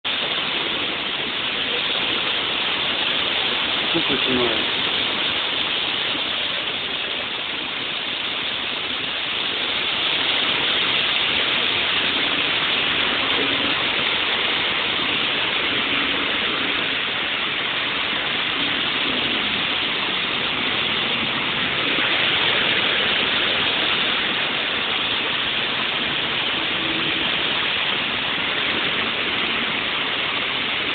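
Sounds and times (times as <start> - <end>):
heavy rain pouring: 0.0 - 30.9
cars driving through water: 0.1 - 30.9.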